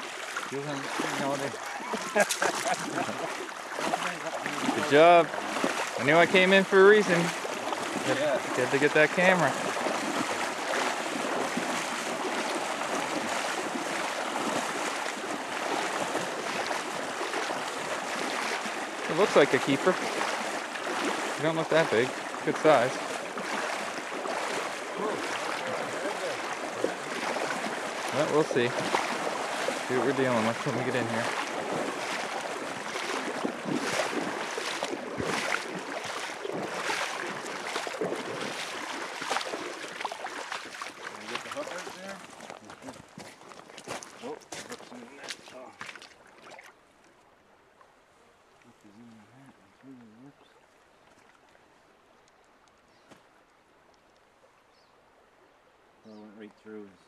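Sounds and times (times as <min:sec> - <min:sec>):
footsteps splashing in water: 0:00.0 - 0:47.2
shallow river rushing: 0:00.0 - 0:48.5.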